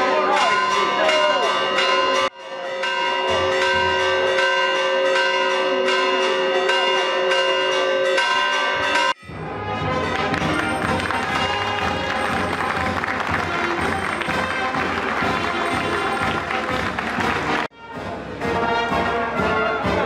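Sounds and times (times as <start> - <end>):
church bells ringing a peal: 0.0 - 17.7.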